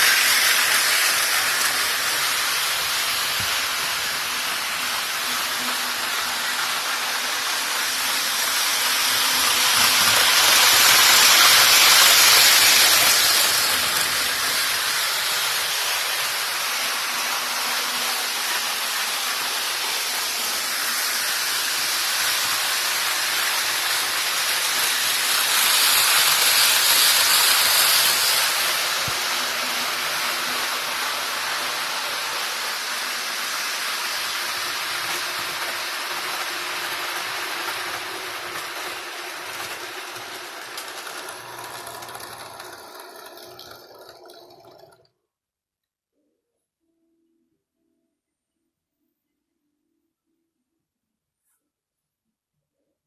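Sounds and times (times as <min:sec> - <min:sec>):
model trains running on track: 0:00.0 - 0:45.0.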